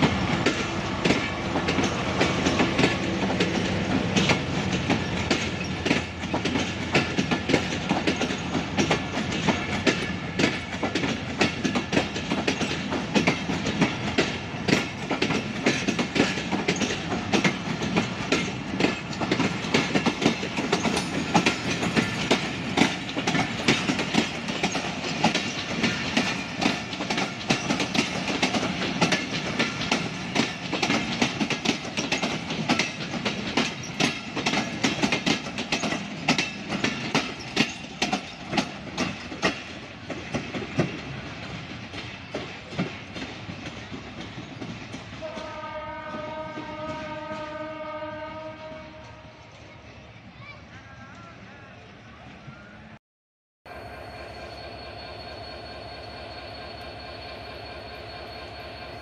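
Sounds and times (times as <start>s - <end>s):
train wheels clicking: 0.0s - 49.7s
train rumble: 0.0s - 53.0s, 53.7s - 59.0s.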